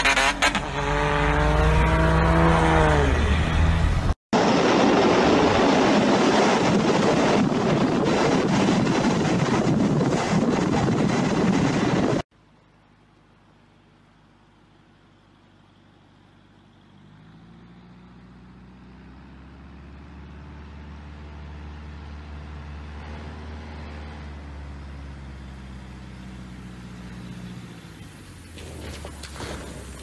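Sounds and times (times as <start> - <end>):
propeller plane engine droning: 2.9 - 30.0.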